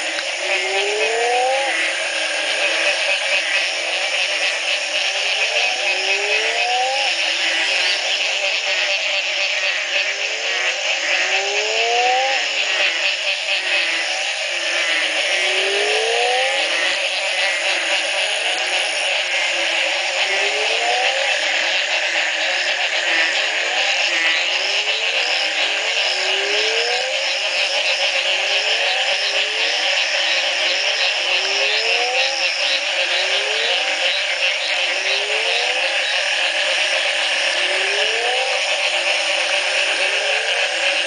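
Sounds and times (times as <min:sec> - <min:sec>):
frogs buzzing trill chorus: 0:00.0 - 0:41.0
short rising frog calls: 0:00.0 - 0:41.0.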